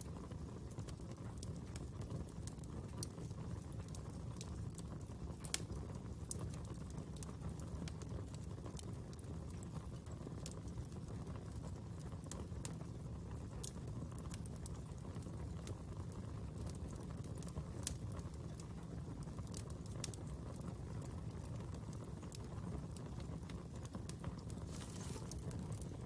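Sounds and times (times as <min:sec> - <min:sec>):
fire popping and snapping: 0:00.0 - 0:26.0
fire rumbling: 0:00.0 - 0:26.0.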